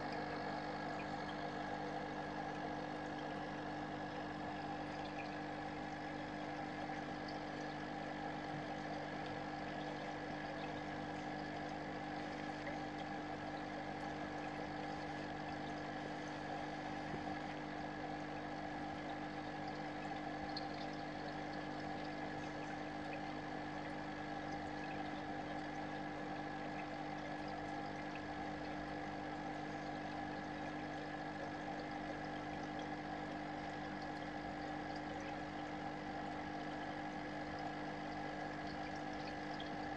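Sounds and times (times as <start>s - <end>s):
aquarium pump humming: 0.0s - 39.9s
water moving in tank: 0.0s - 39.9s.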